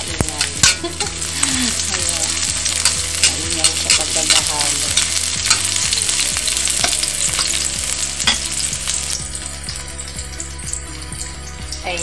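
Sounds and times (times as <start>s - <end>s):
garlic and onion sizzling in oil: 0.0s - 12.0s
metal ladle scraping wok: 0.4s - 11.0s.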